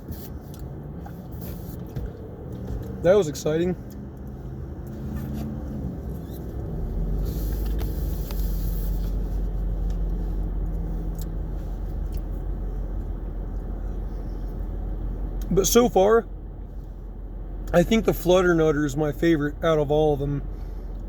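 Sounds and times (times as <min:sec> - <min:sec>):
vehicle rumble inside car: 0:00.0 - 0:21.0.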